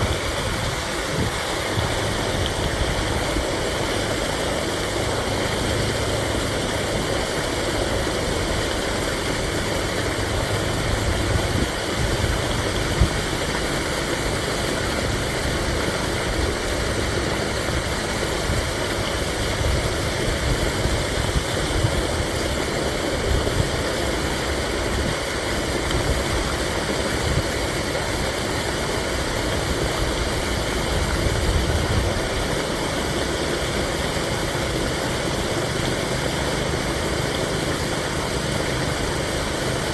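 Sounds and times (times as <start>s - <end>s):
water pouring from drain into creek: 0.0s - 39.9s.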